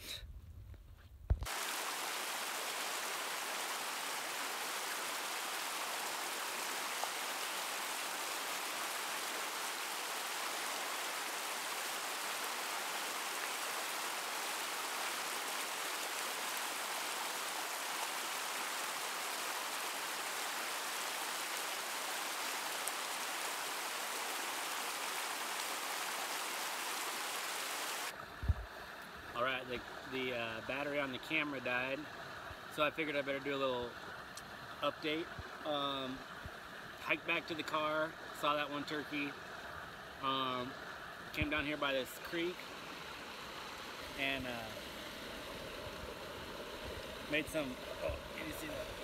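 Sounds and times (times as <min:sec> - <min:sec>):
creek rushing over rocks: 0:01.4 - 0:49.0.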